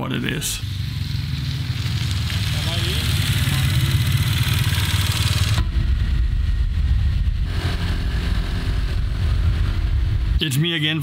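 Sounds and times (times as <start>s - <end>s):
motorbike engine rumbling: 0.0s - 10.4s.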